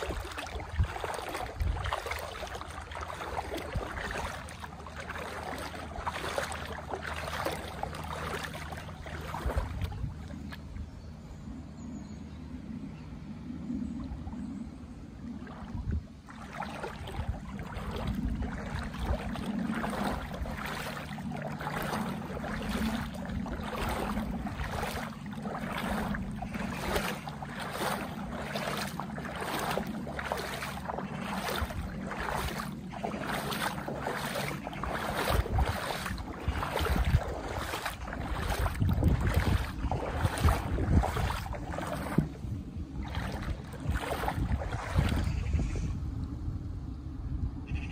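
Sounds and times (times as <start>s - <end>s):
footsteps splashing through water: 0.0s - 10.9s, 15.2s - 45.5s.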